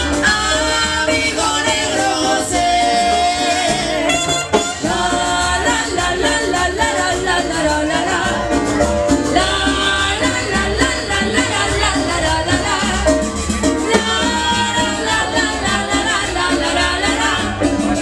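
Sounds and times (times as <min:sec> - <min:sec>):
cumbia band playing: 0:00.0 - 0:18.0
lead singer: 0:00.0 - 0:18.0.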